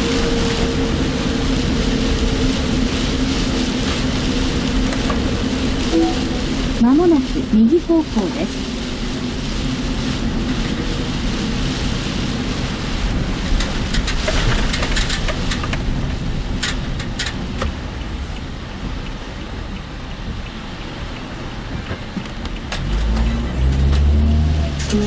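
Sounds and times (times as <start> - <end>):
heavy rain hissing: 0.0 - 22.1
car road noise rumble: 0.0 - 25.0.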